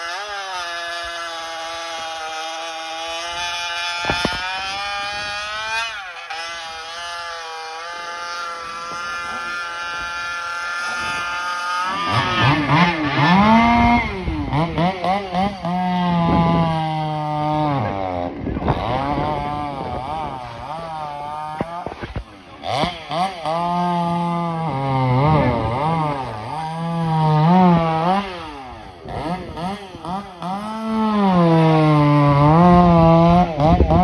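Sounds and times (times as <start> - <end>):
chainsaw cutting log: 0.0 - 34.0.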